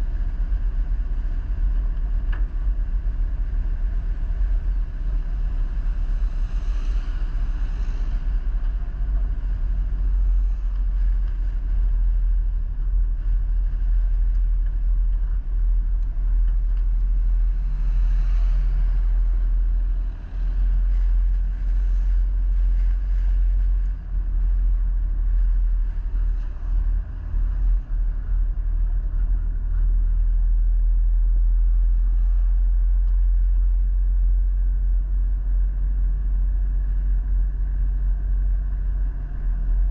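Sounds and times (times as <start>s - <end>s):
road vehicle rumble: 0.0s - 39.9s.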